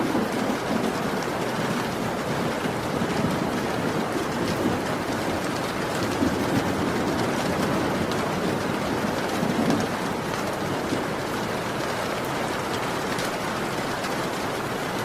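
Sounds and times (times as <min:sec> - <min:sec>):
heavy rain falling: 0:00.0 - 0:15.0
faint raindrop ticks: 0:00.2 - 0:15.0.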